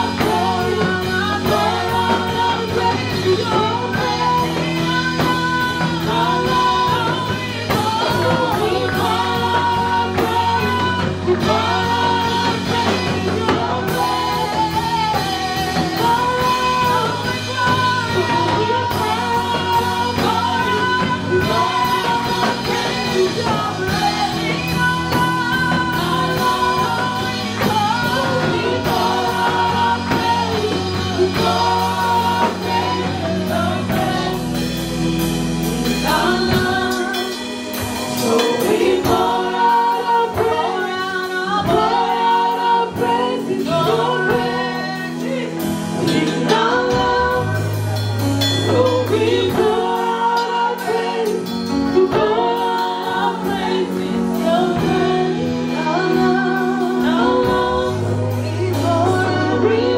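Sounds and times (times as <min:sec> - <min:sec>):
bass notes: 0:00.0 - 0:59.9
group singing gospel song: 0:00.0 - 0:59.9
keyboard: 0:00.0 - 0:59.9
steady drum beat: 0:00.0 - 0:59.9.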